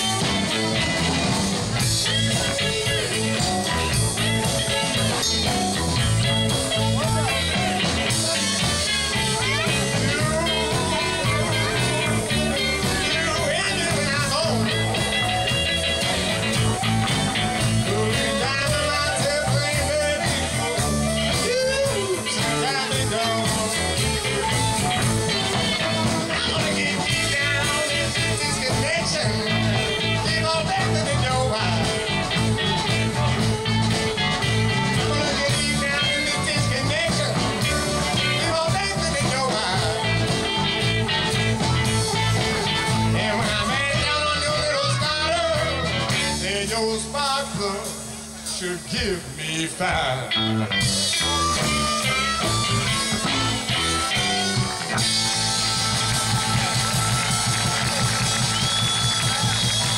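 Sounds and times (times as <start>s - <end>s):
electric guitars: 0.0s - 59.9s
steady drum beat: 0.0s - 59.9s.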